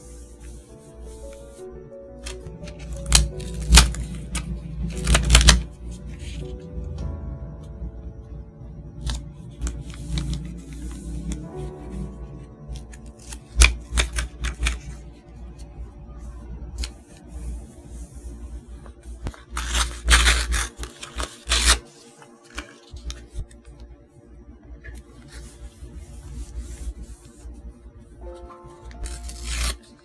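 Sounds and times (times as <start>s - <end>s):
book page rustling: 0.0s - 6.7s, 9.0s - 15.7s, 16.7s - 23.8s, 24.8s - 27.7s, 28.3s - 30.0s
faint piano music: 0.0s - 30.0s.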